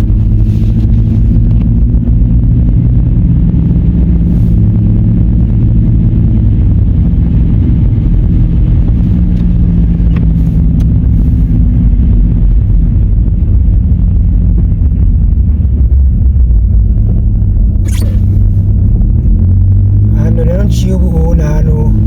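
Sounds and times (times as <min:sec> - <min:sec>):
car engine rumble: 0:00.0 - 0:22.0
road noise: 0:00.0 - 0:22.0.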